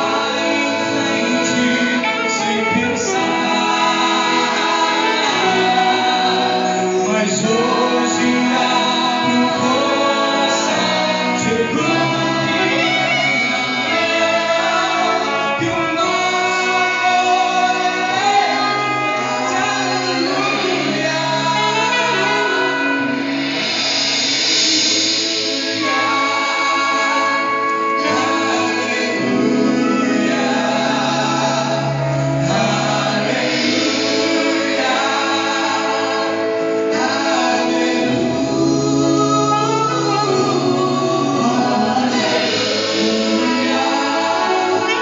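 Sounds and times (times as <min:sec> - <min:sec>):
band accompaniment: 0:00.0 - 0:45.0
group singing in harmony: 0:00.0 - 0:45.0
saxophone: 0:00.0 - 0:45.0.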